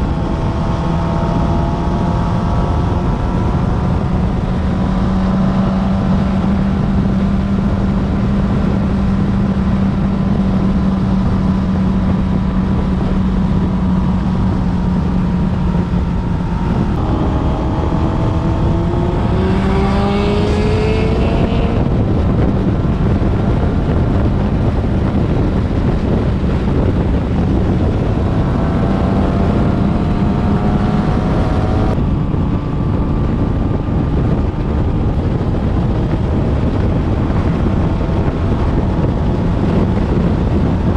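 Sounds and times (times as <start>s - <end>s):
motorcycle engine running: 0.0s - 40.9s
wind noise on microphone: 0.0s - 40.9s.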